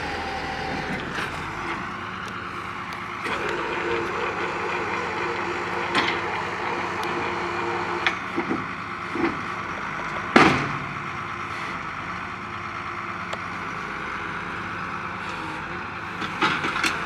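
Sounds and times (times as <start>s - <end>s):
drilling rig engine drone: 0.0s - 17.0s.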